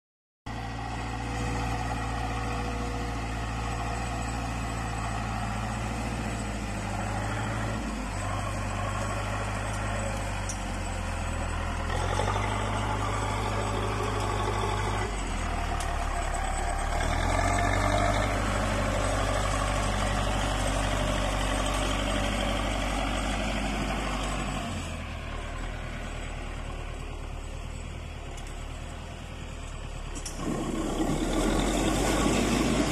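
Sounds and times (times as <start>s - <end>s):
tractor diesel engine under load: 0.5s - 32.9s.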